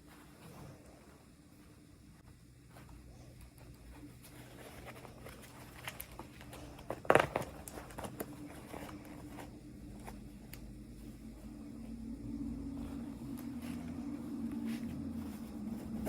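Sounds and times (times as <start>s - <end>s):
faint low hum: 0.0s - 16.0s
handling noise: 2.7s - 16.0s.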